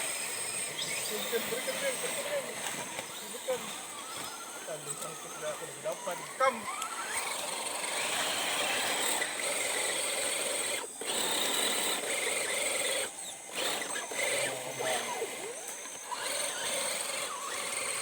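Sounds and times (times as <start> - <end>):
electric motor and gears whirring: 0.0 - 18.0.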